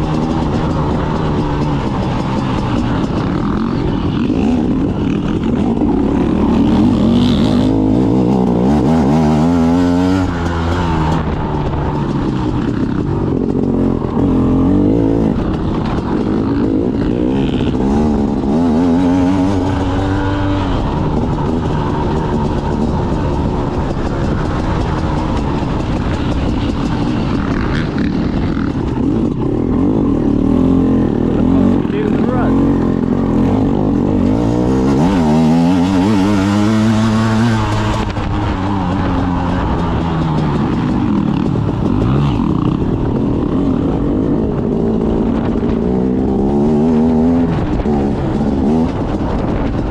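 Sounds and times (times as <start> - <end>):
off-road motorcycle engine revving: 0.0 - 49.9.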